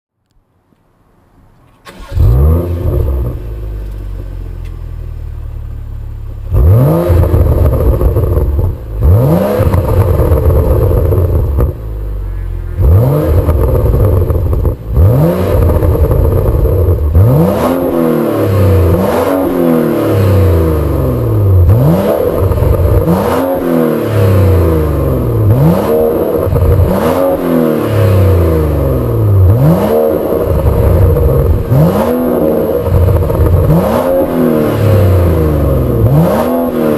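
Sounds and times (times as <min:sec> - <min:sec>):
car engine idling: 0:01.2 - 0:36.9
car engine revving: 0:01.8 - 0:36.9.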